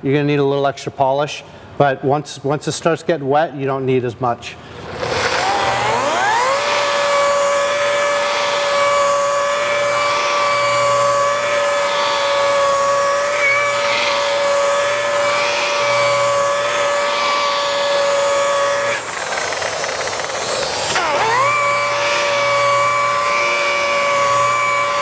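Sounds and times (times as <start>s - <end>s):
rotary polisher motor whine: 4.8s - 25.0s.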